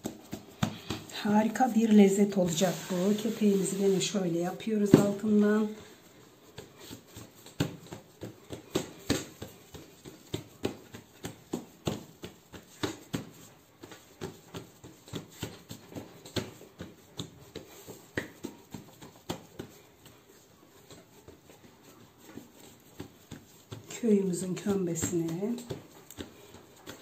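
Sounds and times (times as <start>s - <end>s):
hands slapping dough: 0.0s - 27.0s.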